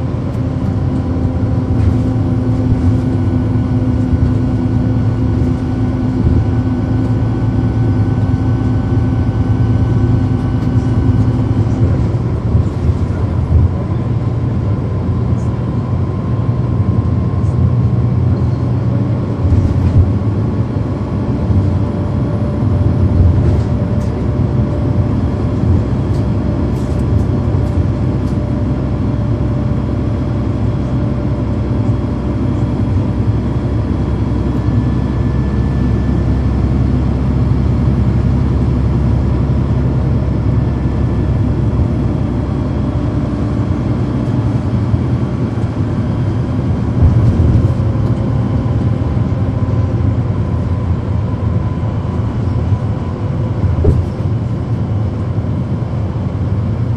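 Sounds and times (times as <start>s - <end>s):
bus diesel engine drone: 0.0s - 56.9s.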